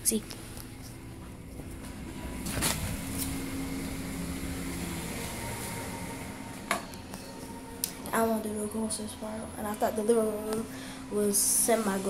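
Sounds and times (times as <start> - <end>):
ventilation fan hum: 0.0 - 12.0.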